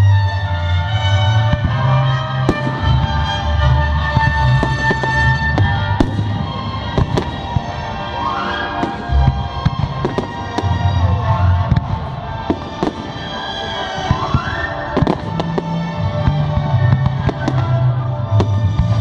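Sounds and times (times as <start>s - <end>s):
music over loudspeakers: 0.0s - 19.0s
fireworks bangs and crackles: 1.4s - 19.0s.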